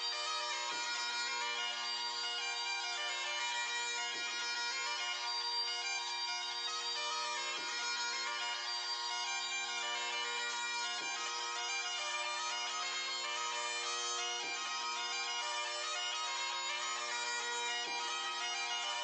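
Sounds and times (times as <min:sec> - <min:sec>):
bagpipe drone: 0:00.0 - 0:19.0
fast bagpipe melody: 0:00.0 - 0:19.0.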